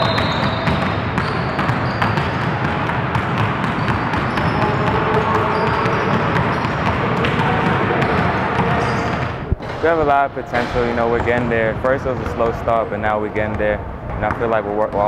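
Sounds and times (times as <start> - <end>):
basketballs bouncing on wooden floor: 0.0 - 9.8, 10.6 - 15.0.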